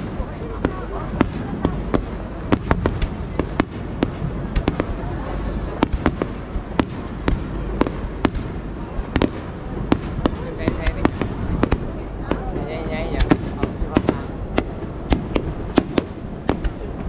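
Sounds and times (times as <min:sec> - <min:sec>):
fireworks bangs and pops: 0:00.0 - 0:17.0
low rumble: 0:00.0 - 0:17.0.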